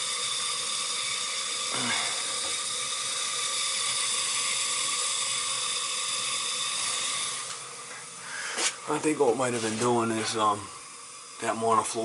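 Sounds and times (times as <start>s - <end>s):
faint pump hum: 0.0s - 12.0s
heating system hiss: 0.0s - 12.0s.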